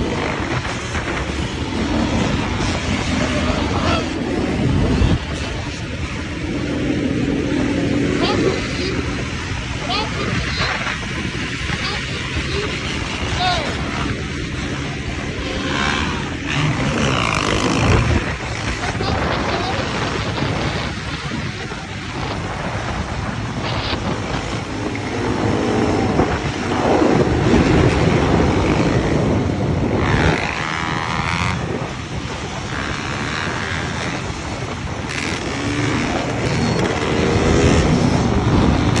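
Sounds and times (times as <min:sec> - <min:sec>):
dirt bike engines revving: 0:00.0 - 0:39.0
wind on microphone: 0:00.0 - 0:39.0.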